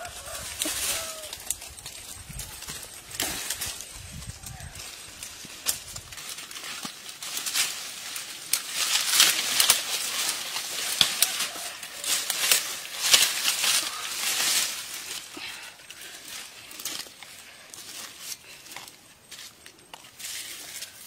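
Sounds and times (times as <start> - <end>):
dry leaves and twigs rustling: 0.0 - 21.0.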